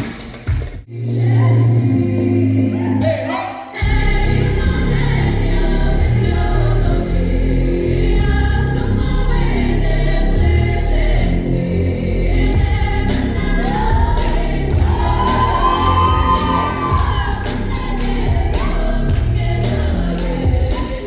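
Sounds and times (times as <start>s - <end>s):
choir-like singing: 0.8s - 21.0s
person singing long lines: 0.9s - 21.0s
steady low bass: 3.8s - 20.9s.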